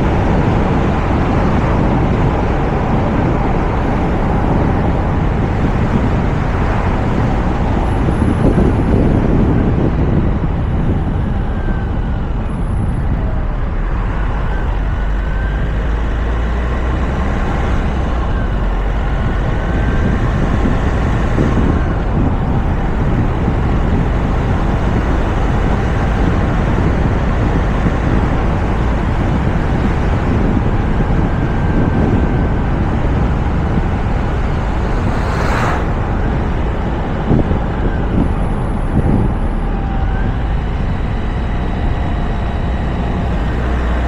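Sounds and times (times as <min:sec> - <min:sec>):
wind and road noise: 0:00.0 - 0:44.0.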